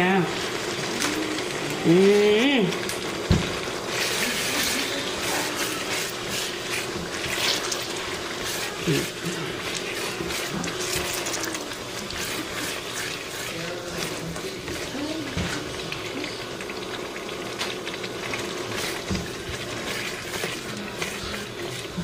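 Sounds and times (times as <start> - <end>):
meat sizzling in a pot: 0.0 - 22.0
spatula stirring: 0.0 - 22.0.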